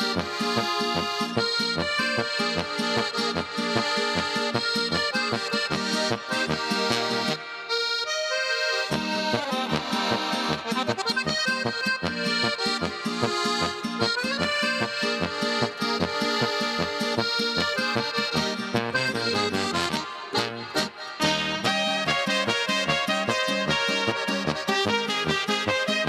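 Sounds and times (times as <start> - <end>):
accordion music: 0.0 - 26.0.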